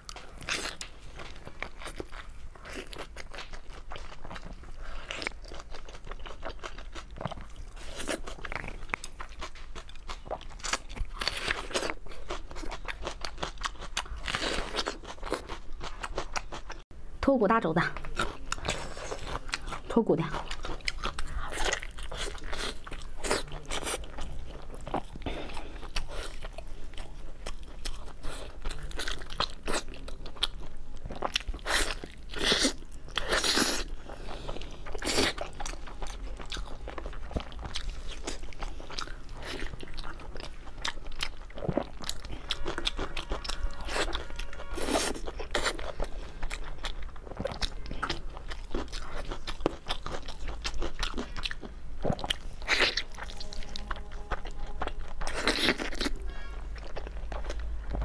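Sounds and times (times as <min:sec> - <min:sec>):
close-miked chewing: 0:00.0 - 0:16.8, 0:17.8 - 0:58.0.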